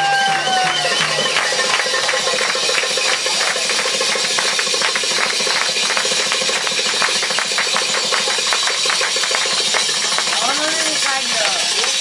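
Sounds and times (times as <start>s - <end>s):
belly-dance music with fast drum roll: 0.0s - 12.0s.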